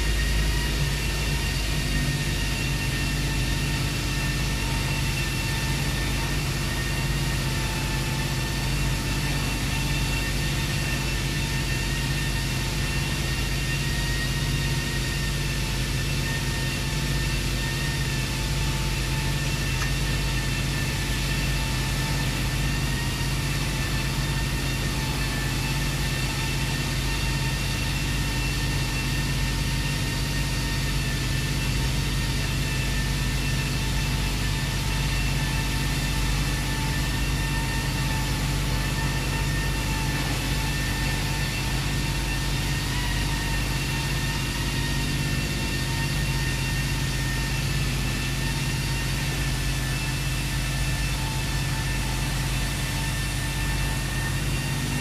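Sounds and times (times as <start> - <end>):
machine drone with high whine: 0.0 - 55.0.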